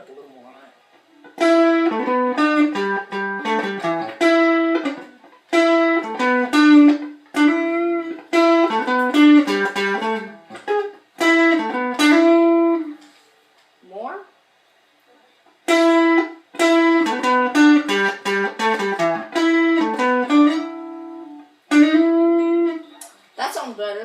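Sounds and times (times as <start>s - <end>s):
electric guitar riff: 1.1s - 13.0s, 15.6s - 23.1s.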